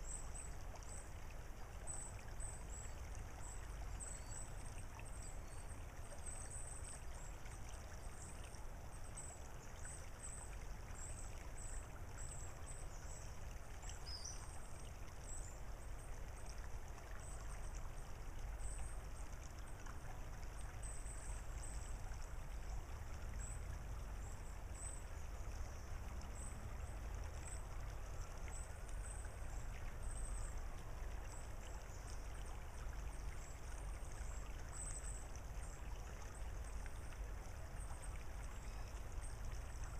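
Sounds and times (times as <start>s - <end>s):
creek water trickling over pebbles: 0.0s - 39.9s.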